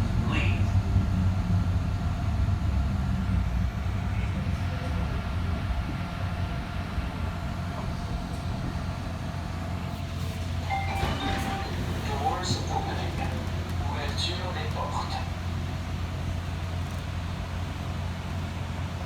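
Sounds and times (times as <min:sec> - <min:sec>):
light-rail car rumbling: 0:00.0 - 0:19.0.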